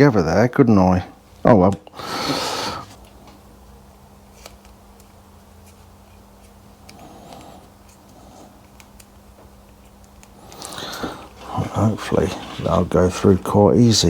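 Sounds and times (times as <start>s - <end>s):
steady low hum: 0.0s - 14.0s
wires rustling: 1.2s - 14.0s.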